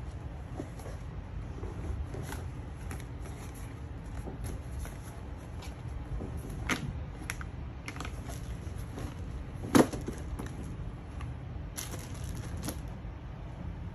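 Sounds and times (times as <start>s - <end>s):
rustling of gloves and packaging: 0.0s - 13.0s.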